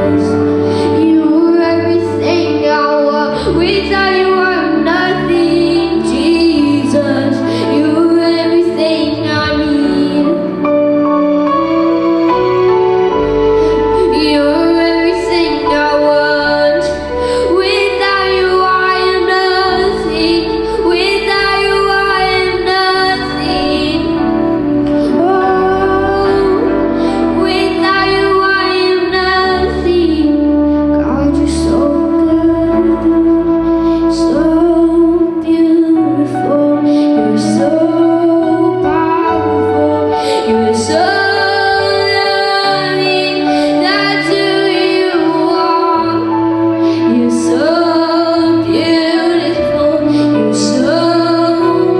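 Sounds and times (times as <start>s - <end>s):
woman singing: 0.0s - 10.8s, 13.7s - 51.9s
instrumental backing with bass: 0.0s - 51.9s.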